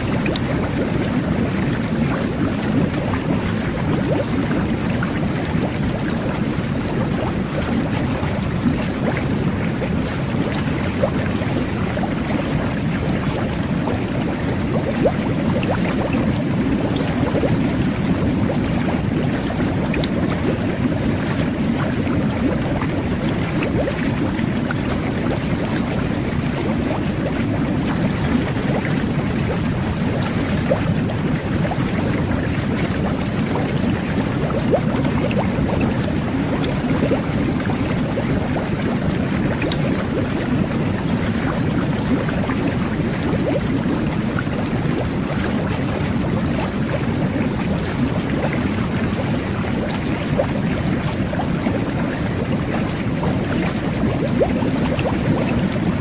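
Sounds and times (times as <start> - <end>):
whirlpool tub water churning: 0.0 - 56.0.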